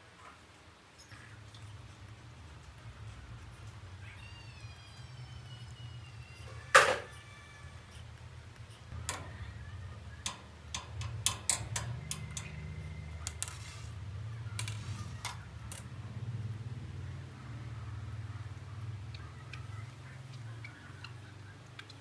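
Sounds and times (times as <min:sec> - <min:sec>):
steady low hum: 0:01.0 - 0:22.0.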